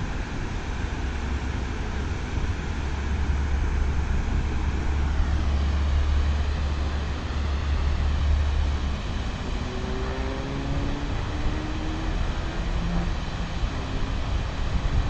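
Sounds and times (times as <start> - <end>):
deep rumble: 0.0 - 15.0
faint rising hum: 0.6 - 15.0.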